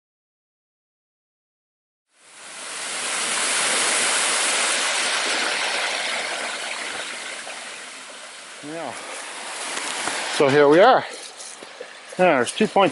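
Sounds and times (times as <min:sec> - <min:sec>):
waterfall rushing: 0:02.3 - 0:12.9.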